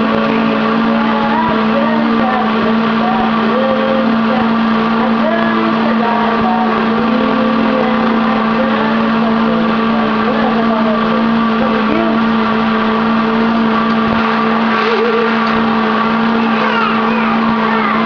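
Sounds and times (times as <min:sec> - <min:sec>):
blender motor whine: 0:00.0 - 0:18.0.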